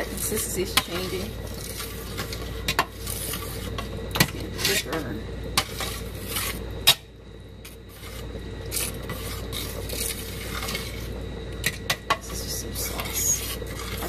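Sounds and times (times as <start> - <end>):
metal turner scraping a pan: 0.0 - 7.0, 7.6 - 14.0.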